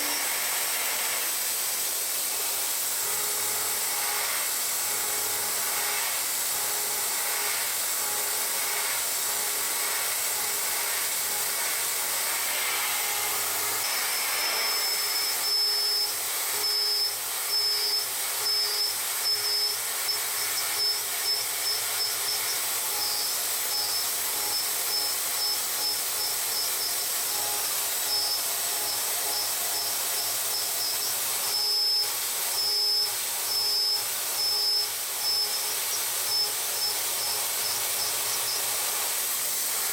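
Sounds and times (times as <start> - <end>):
high-pitched whine: 0.0 - 39.9
steady high hiss: 0.0 - 39.9.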